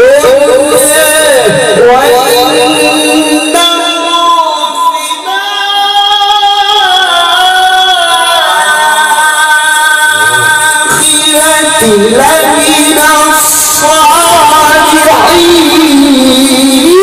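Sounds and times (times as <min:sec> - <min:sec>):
man chanting through loudspeaker: 0:00.0 - 0:17.0.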